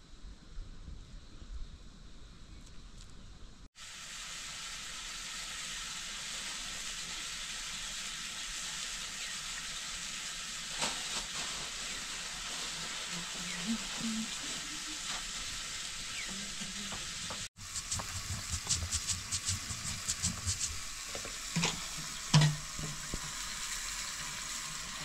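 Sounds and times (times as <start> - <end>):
food sizzling in hot oil: 3.8 - 25.0.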